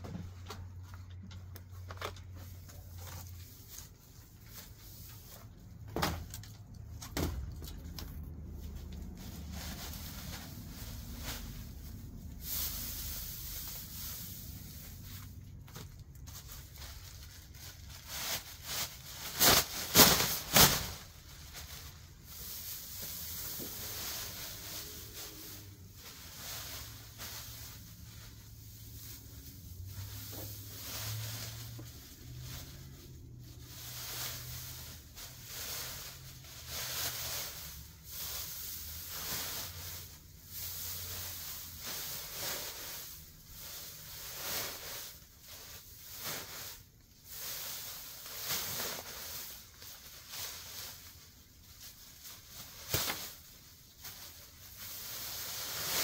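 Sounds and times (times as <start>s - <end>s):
dry grass rustling and crackling: 0.8s - 56.0s.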